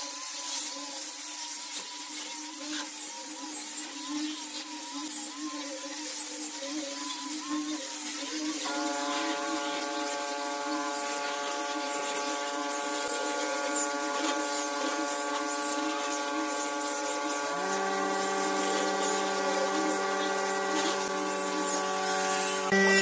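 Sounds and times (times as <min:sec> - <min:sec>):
angle grinder motor whine: 0:00.0 - 0:23.0
abrasive hissing on wood: 0:01.4 - 0:23.0.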